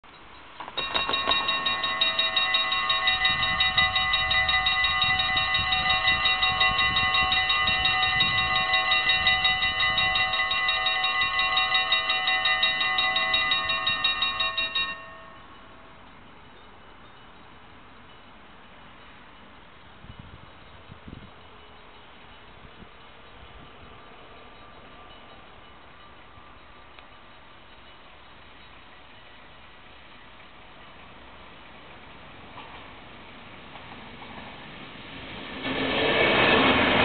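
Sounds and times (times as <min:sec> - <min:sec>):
level crossing warning bell ringing: 0:00.0 - 0:30.9.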